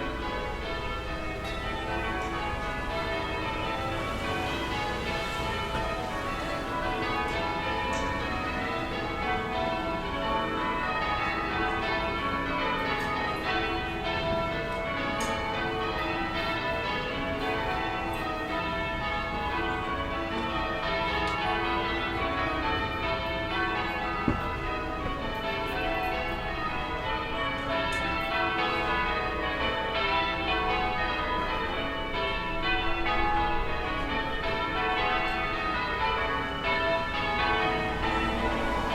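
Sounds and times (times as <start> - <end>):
distant church bells pealing: 0.0 - 38.9.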